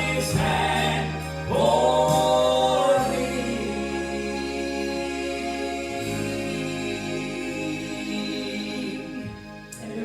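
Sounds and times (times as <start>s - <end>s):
slow gospel music: 0.0s - 10.0s.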